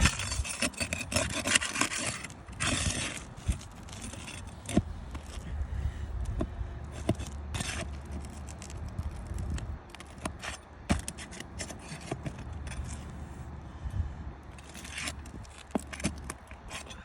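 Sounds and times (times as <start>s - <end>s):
scraping on roof shingles: 0.0s - 5.5s, 6.3s - 13.1s, 14.6s - 17.0s.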